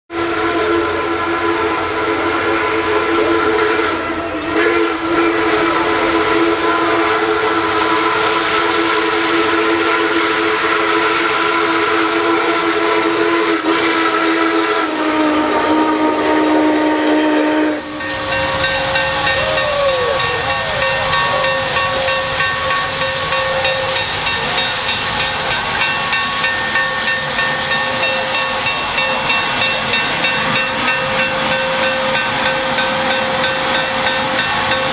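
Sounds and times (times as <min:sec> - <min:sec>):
steam whistle blast: 0:00.1 - 0:34.9
loud steam hissing: 0:00.4 - 0:34.9.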